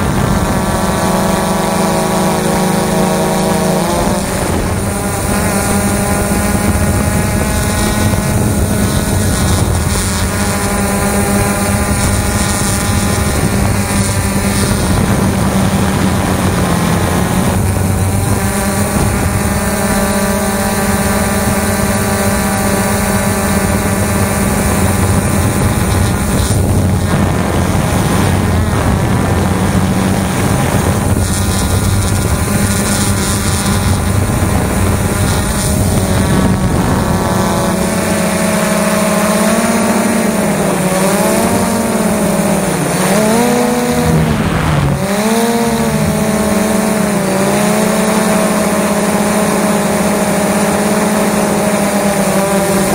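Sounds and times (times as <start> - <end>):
drone propellers whirring: 0.0 - 52.9
steady rushing noise: 0.0 - 52.9.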